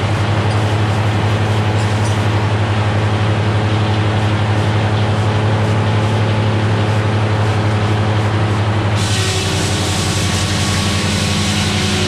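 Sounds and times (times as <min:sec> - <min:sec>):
diesel engine driving sawmill: 0:00.0 - 0:12.0.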